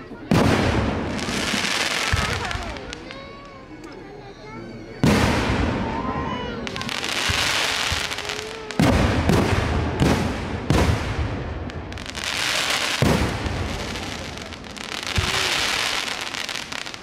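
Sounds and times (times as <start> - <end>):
firework booms: 0.2 - 3.3, 5.0 - 17.0
crackling hiss of firework stars: 0.3 - 3.9, 6.4 - 17.0.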